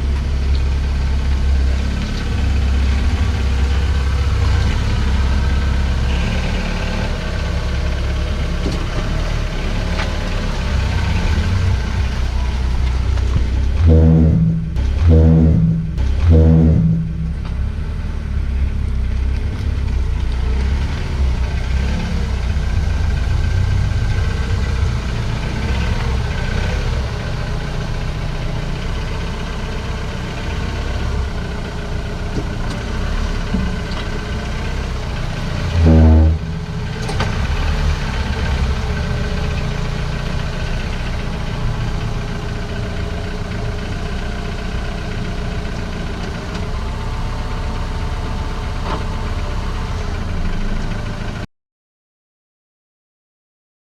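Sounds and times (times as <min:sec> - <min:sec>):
brakes groaning: 0:00.0 - 0:51.4
van running noise: 0:00.0 - 0:51.4.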